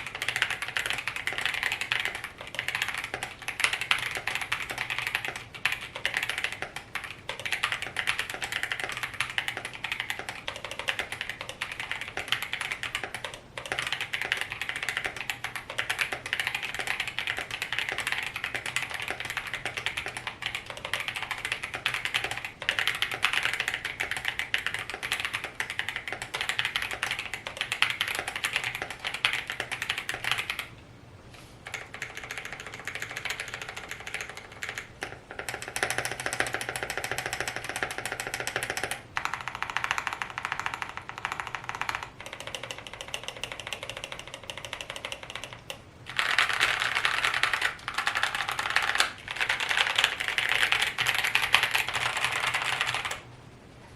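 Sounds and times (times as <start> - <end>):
mechanical keyboard typing: 0.0 - 30.8, 31.6 - 53.3.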